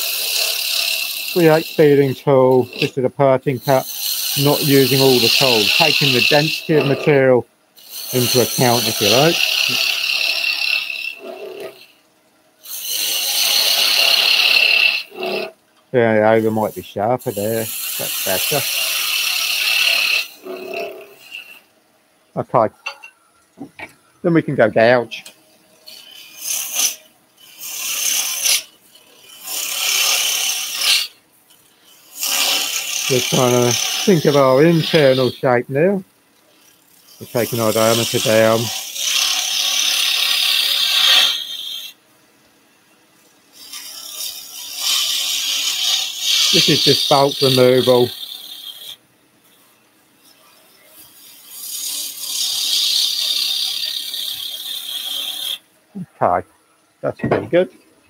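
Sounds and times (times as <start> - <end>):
gouge cutting wood on lathe: 0.0 - 12.0, 12.6 - 15.6, 16.2 - 21.7, 25.8 - 35.9, 36.5 - 42.0, 43.5 - 49.0, 50.2 - 55.6.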